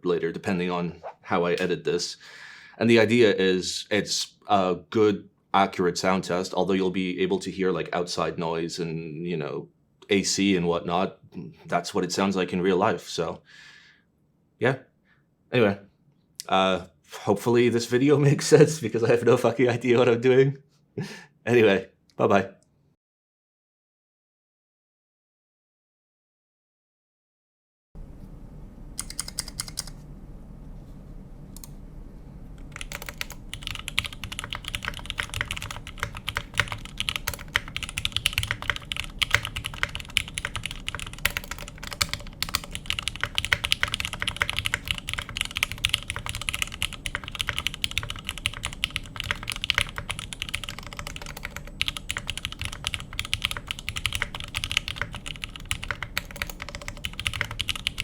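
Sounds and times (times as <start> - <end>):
low room hum: 0.0 - 23.0, 28.0 - 58.0.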